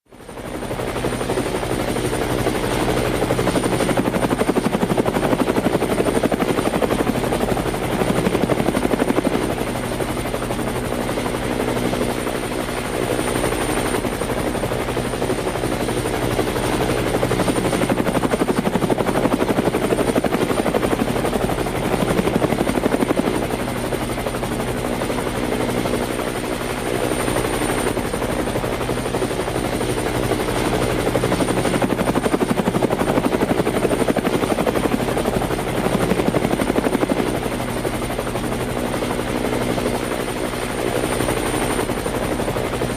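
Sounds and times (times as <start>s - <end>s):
helicopter rotor chopping: 0.2s - 42.9s.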